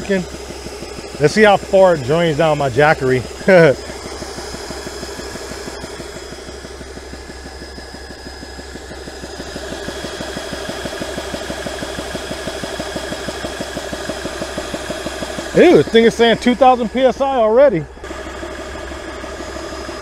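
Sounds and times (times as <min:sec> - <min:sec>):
air compressor pump chugging: 0:00.0 - 0:20.0.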